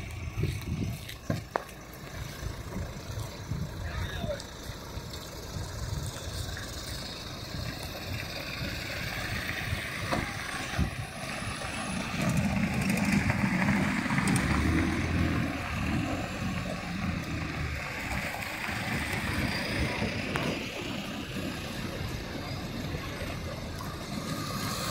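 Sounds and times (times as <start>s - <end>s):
steady outdoor noise: 0.0s - 24.9s
vehicle engine running: 0.0s - 24.9s.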